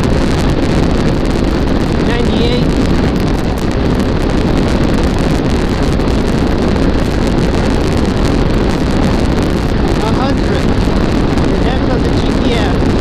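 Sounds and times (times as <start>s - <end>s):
loud wind rush on microphone: 0.0s - 13.0s.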